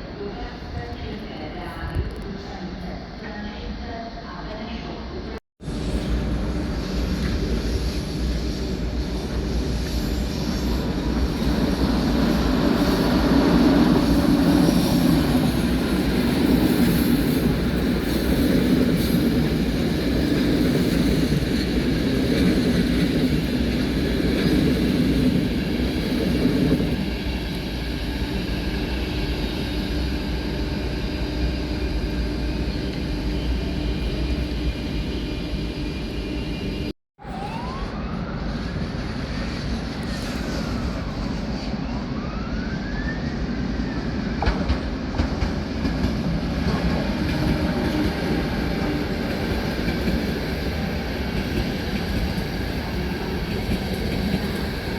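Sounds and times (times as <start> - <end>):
rail vehicle rumbling past: 5.3 - 54.9.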